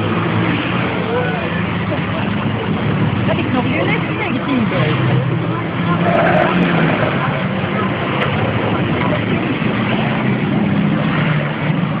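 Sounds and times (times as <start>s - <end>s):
diesel truck engines droning: 0.0s - 12.0s.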